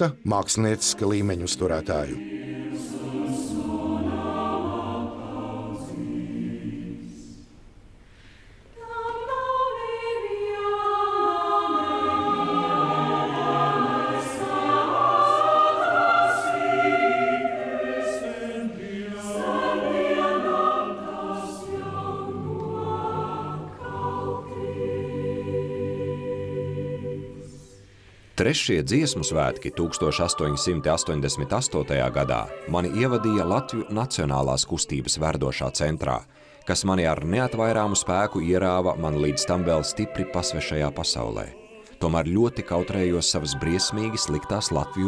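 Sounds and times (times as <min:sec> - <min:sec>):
mixed choir singing: 0:00.0 - 0:07.6, 0:08.8 - 0:27.9, 0:28.8 - 0:35.6, 0:36.6 - 0:45.0.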